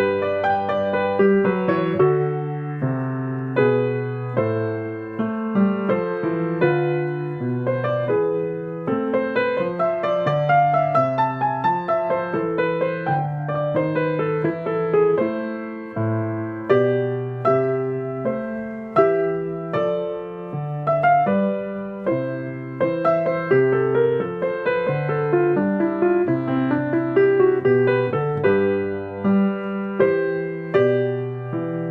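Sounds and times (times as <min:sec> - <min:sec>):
solo piano piece: 0:00.0 - 0:31.9.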